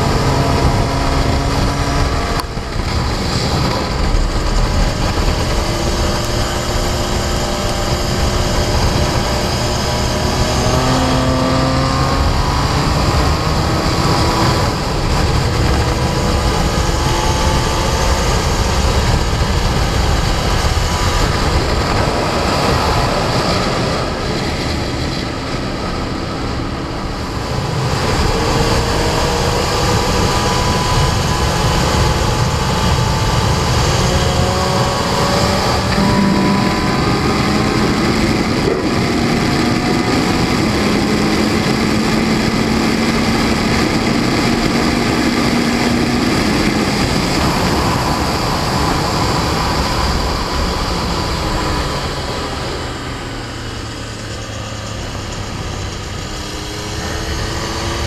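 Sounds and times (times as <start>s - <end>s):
motorcycle engine accelerating: 0.0s - 58.0s
wind noise: 0.0s - 58.0s.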